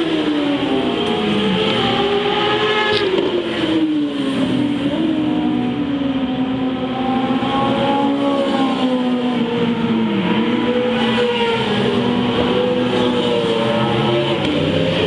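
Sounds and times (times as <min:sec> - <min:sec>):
race car engine onboard: 0:00.0 - 0:15.0.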